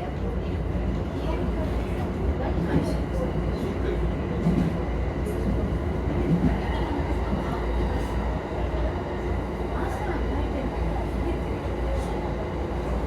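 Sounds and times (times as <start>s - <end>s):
station background noise: 0.0s - 13.0s.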